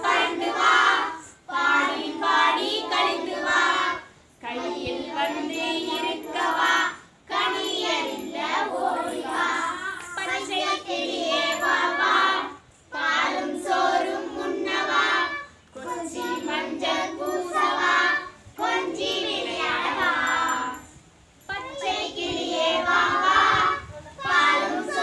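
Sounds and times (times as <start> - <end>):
children singing together: 0.0 - 20.8, 21.8 - 25.0.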